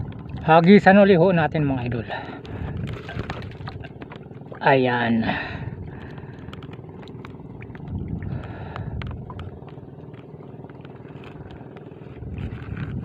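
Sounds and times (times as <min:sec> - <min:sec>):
choppy water around a boat: 0:00.0 - 0:13.0.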